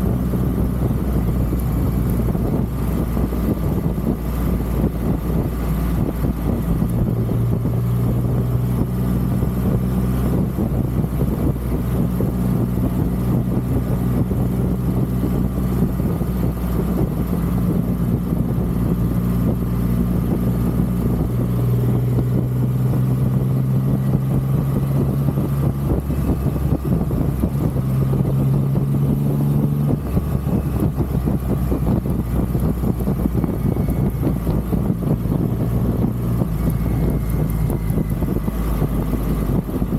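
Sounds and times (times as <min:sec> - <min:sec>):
motorcycle engine running: 0:00.0 - 0:39.9
rumble from the ride: 0:00.0 - 0:39.9.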